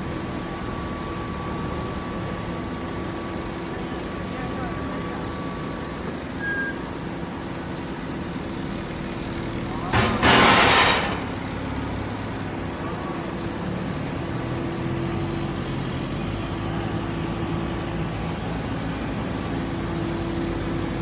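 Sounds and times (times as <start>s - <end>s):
baler machinery humming: 0.0s - 21.0s.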